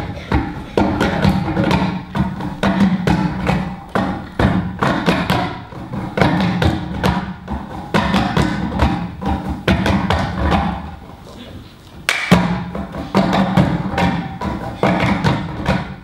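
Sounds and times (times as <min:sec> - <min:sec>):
music: 0:00.0 - 0:10.9, 0:12.2 - 0:16.0.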